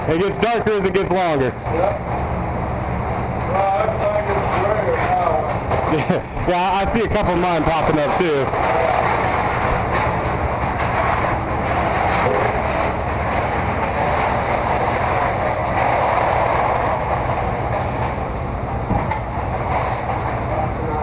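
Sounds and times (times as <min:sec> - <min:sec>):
continual clatter: 0:00.0 - 0:02.4, 0:03.1 - 0:21.0
loud mechanical rumbling: 0:00.0 - 0:21.0.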